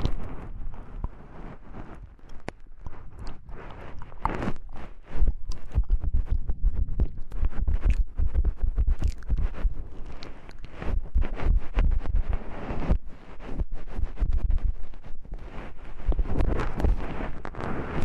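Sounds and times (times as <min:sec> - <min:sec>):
clicks and scrapes on microphone: 0:00.0 - 0:18.0.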